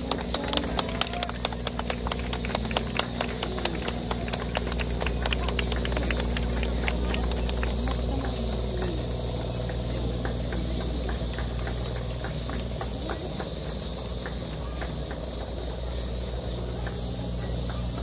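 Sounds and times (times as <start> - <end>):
engine idling: 0.0 - 18.0
faint voices: 0.0 - 18.0.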